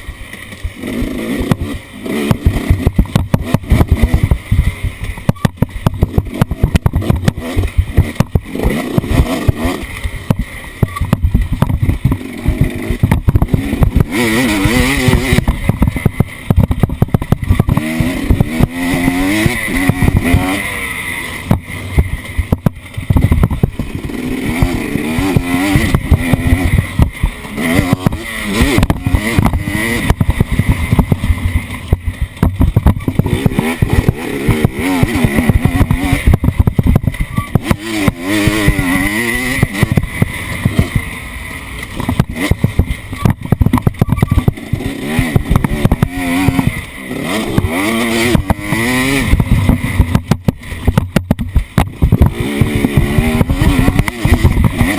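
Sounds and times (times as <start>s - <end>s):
off-road vehicle engine revving: 0.0s - 54.9s
knocks and rattles: 1.4s - 20.6s, 21.4s - 41.2s, 41.8s - 54.9s.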